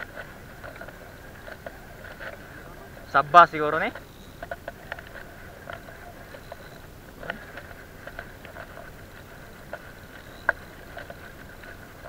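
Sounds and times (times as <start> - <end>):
reel clicking: 0.0 - 12.0.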